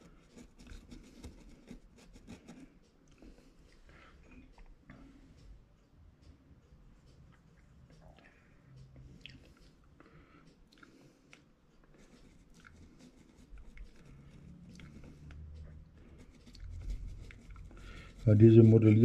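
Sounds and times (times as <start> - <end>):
faint small clicks and ticks: 0.0 - 19.0.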